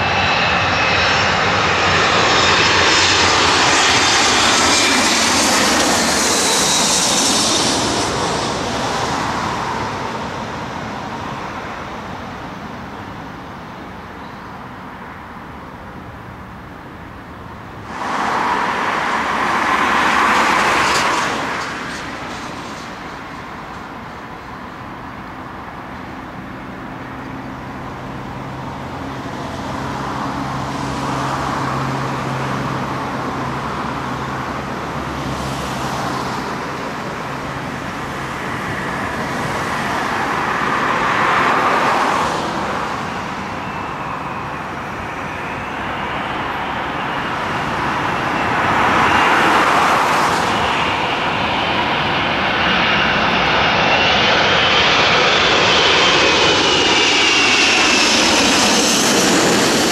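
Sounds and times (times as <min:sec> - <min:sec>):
high engine whine: 0:00.0 - 0:59.9
jet engines on approach: 0:00.0 - 0:59.9.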